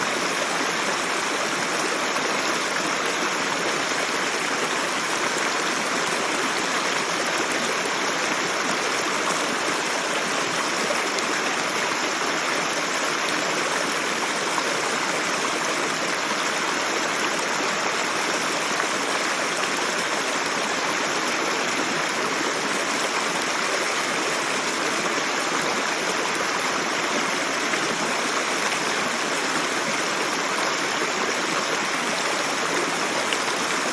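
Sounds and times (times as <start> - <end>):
creek water rushing over rocks: 0.0 - 33.9.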